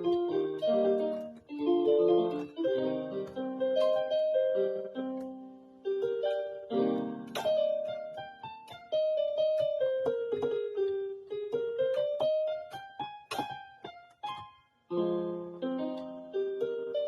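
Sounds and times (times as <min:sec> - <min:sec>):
solo piano improvising: 0:00.0 - 0:17.0.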